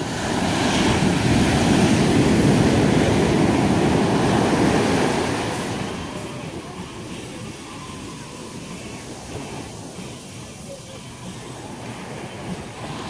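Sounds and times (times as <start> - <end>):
ocean wave breaking: 0.0 - 13.0
whitewater rushing up sand: 0.0 - 13.0.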